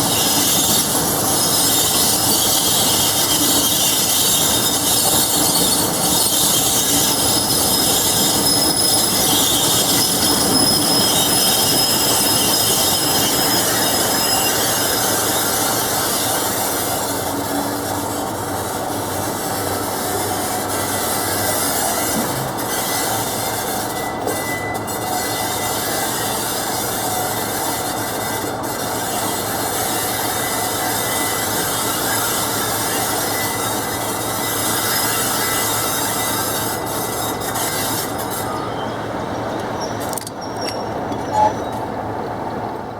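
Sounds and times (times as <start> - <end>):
brake squeal: 0.0 - 42.9
train rolling noise: 0.0 - 42.9.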